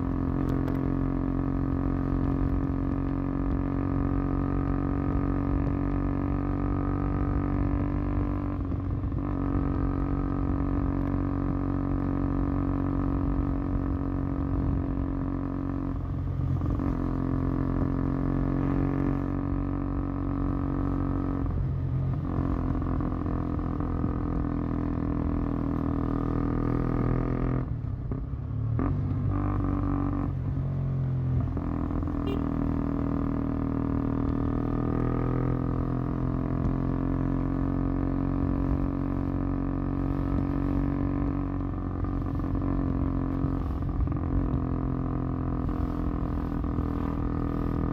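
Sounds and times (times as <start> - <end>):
motorcycle exhaust running: 0.0 - 47.9.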